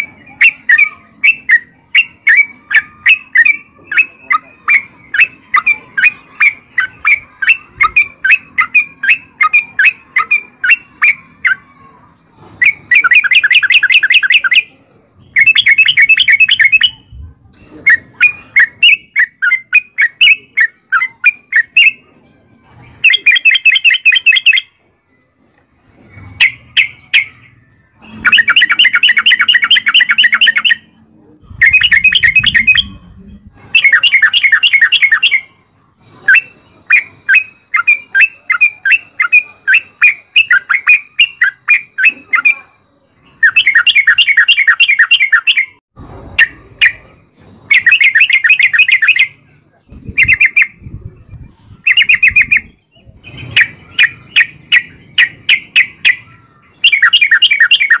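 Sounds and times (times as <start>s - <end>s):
bulbul singing rolling chatter: 0.0s - 58.0s.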